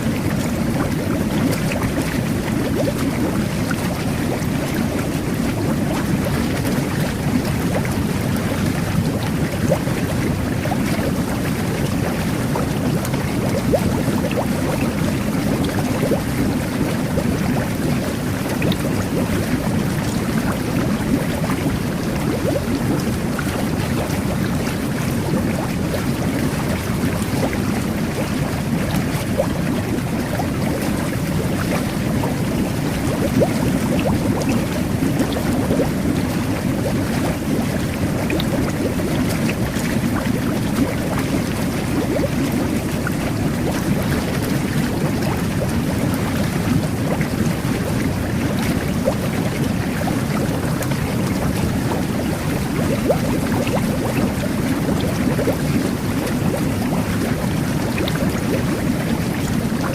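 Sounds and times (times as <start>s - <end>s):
bubbling crackles: 0.0s - 59.9s
jet bath water churning: 0.0s - 59.9s.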